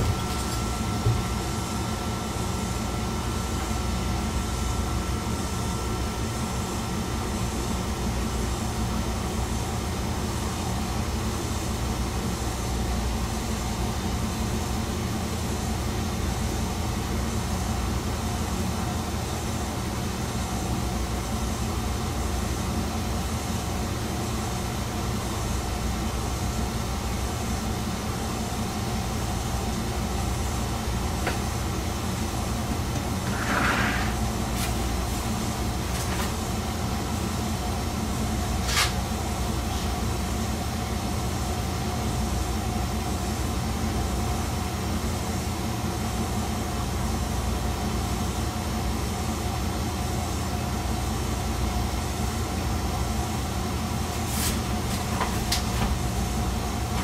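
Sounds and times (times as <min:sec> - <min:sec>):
railcar engine drone: 0:00.0 - 0:57.0.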